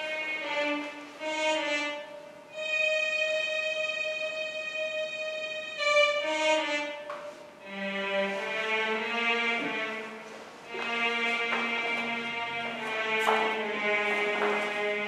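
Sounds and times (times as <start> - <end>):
violin playing slow notes: 0.0 - 15.0.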